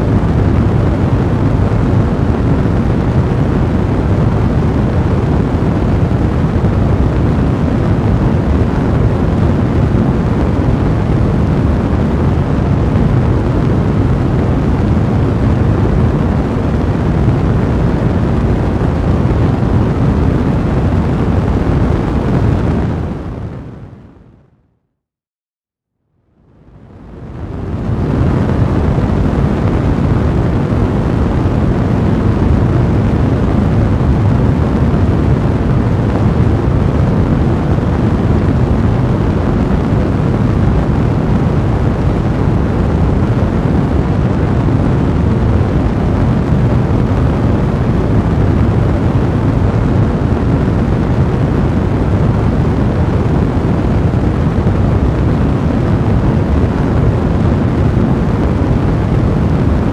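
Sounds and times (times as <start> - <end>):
fireplace fire rumbling: 0.0 - 24.3, 26.5 - 59.9.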